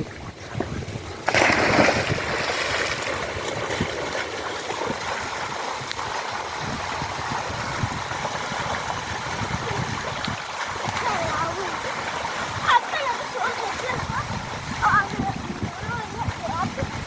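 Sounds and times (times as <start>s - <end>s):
water splashing from swimmers: 0.0s - 17.0s.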